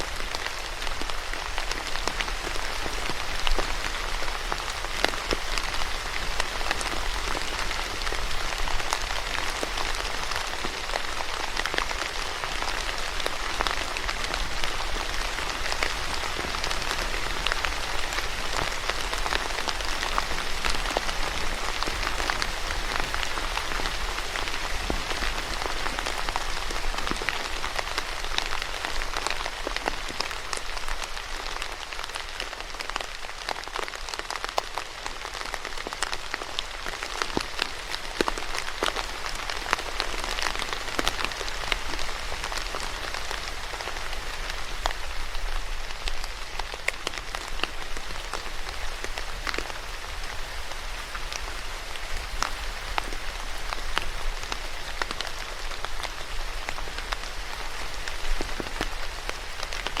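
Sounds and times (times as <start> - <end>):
rain pattering on a surface: 0.0 - 60.0.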